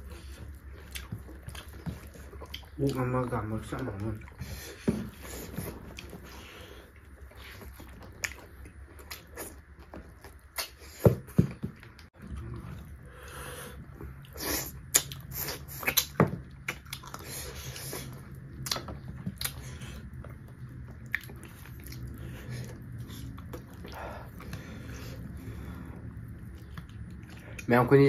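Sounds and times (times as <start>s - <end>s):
wet chewing and lip-smacking: 0.0s - 27.7s.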